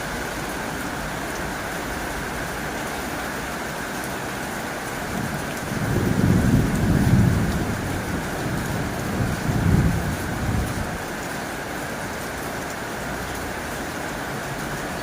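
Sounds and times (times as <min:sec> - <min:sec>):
heavy rain on a tin roof: 0:00.0 - 0:15.0.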